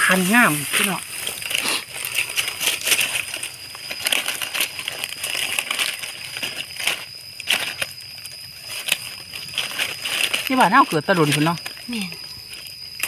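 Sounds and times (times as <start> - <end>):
dry leaves and twigs crackling: 0.0 - 13.0.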